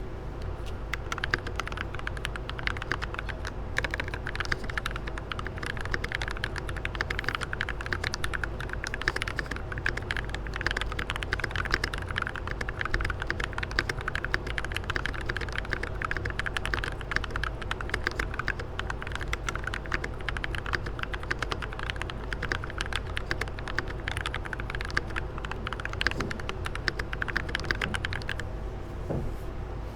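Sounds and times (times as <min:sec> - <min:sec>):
fast typing on mechanical keyboard: 0:00.9 - 0:28.5.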